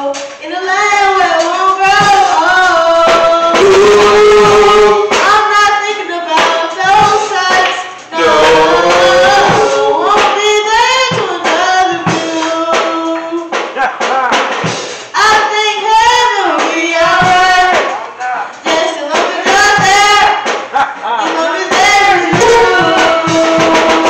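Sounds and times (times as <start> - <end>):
solo voice singing gospel: 0.0 - 14.4, 15.2 - 24.0
instrumental accompaniment: 0.0 - 24.0.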